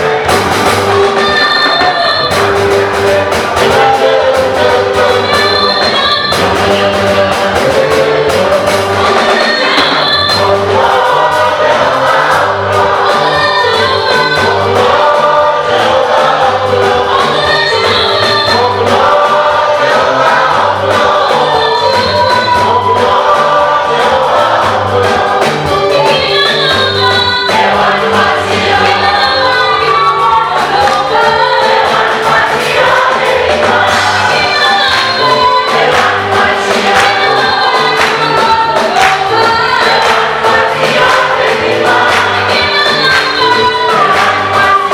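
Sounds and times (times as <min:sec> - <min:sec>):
steady bass pulse: 0:00.0 - 0:01.3, 0:10.1 - 0:44.9
band accompaniment: 0:00.0 - 0:44.9
choir singing gospel song: 0:00.0 - 0:44.9.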